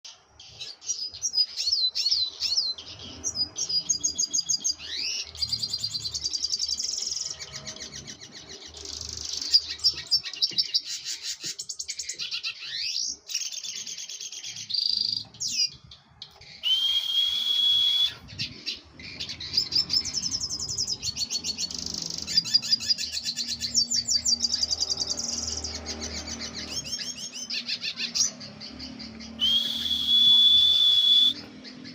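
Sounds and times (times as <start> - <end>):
songbird singing trills and whistles: 0.1 - 31.9.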